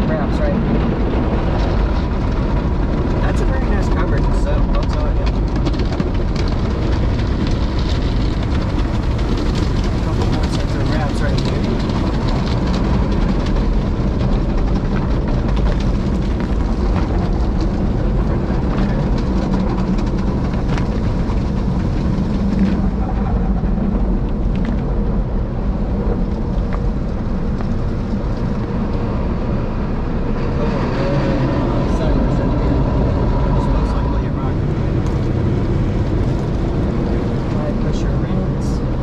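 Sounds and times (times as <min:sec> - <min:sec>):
car wash machinery rumble: 0:00.0 - 0:39.0.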